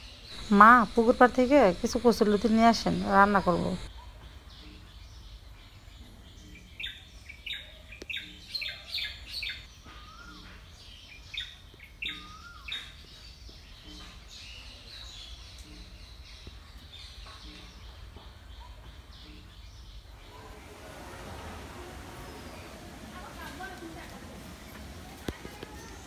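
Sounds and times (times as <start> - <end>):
birds chirping: 0.0 - 26.0
low steady outdoor background: 0.0 - 26.0.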